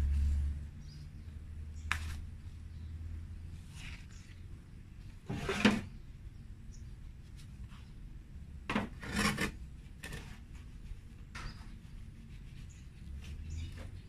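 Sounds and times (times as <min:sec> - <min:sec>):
potting soil rustling and scraping: 0:00.0 - 0:06.0, 0:08.6 - 0:14.0.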